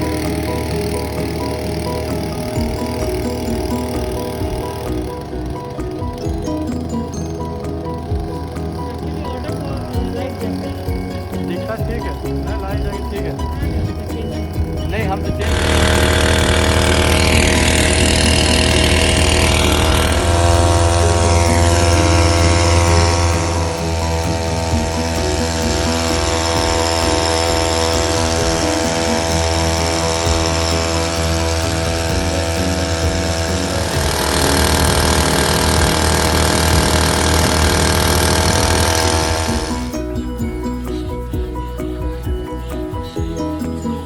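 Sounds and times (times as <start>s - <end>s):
small boat motor running: 0.0s - 44.0s.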